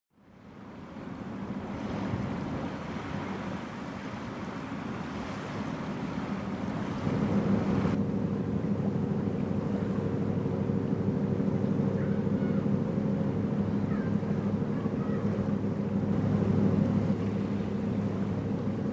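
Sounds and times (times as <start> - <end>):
rushing wind and water: 0.1 - 18.9
boat engine drone: 0.2 - 18.9.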